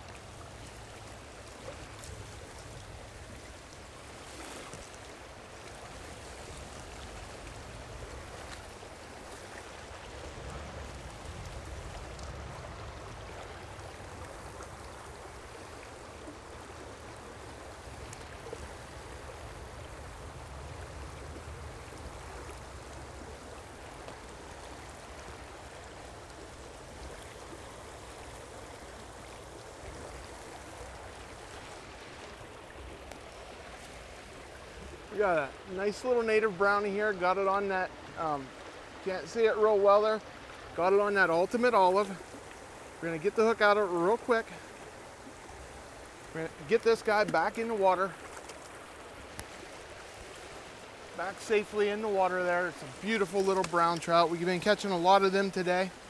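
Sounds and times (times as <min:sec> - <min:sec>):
stream flowing over riffles: 0:00.0 - 0:56.0.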